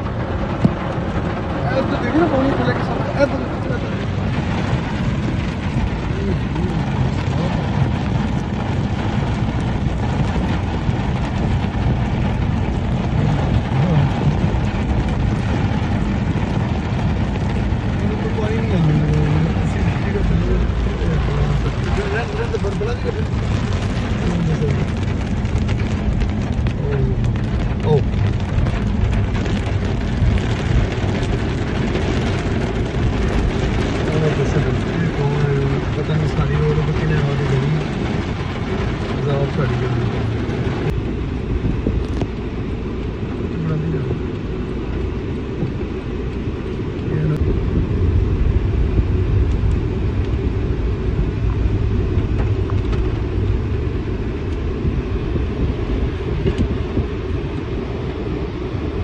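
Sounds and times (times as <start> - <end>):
heavy rain on car roof: 0.0 - 59.0.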